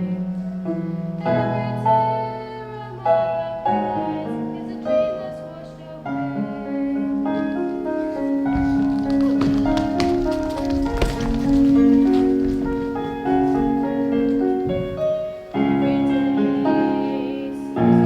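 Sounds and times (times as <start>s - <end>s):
slow piano ballad chords: 0.0s - 18.0s.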